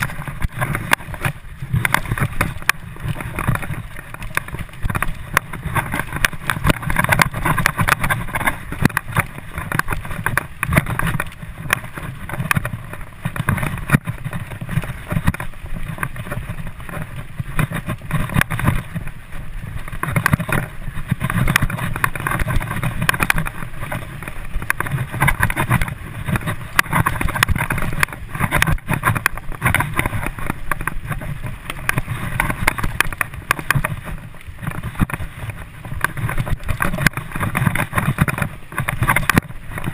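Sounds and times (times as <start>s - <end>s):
bike knocks and rattles: 0.0s - 39.9s
bike tyre noise: 0.0s - 39.9s
wind rumble on microphone: 0.0s - 39.9s.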